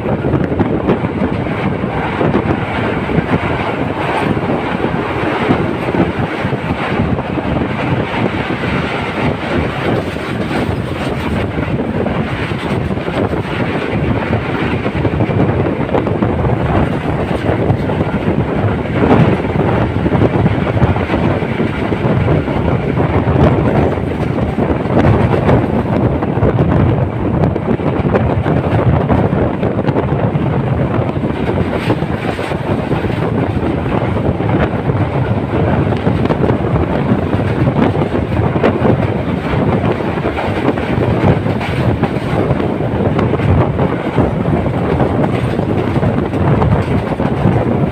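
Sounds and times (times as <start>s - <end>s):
clacks over rail joints: 0.0s - 26.6s, 30.7s - 47.9s
train wheels rumbling on rail: 0.0s - 47.9s.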